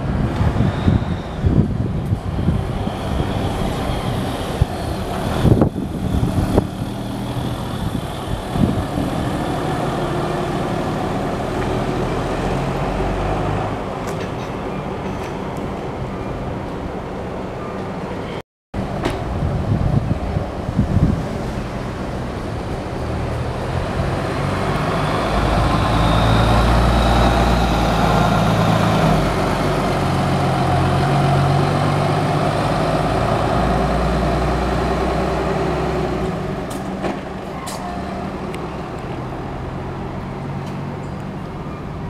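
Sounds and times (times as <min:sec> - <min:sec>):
bus diesel engine accelerating: 0:00.0 - 0:42.0.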